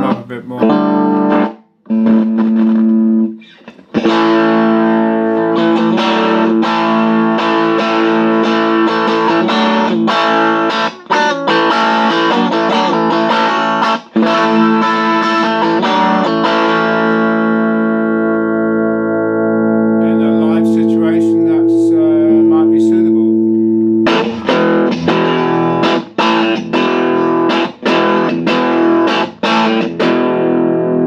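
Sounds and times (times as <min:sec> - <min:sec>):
distorted electric guitar: 0:00.0 - 0:31.0.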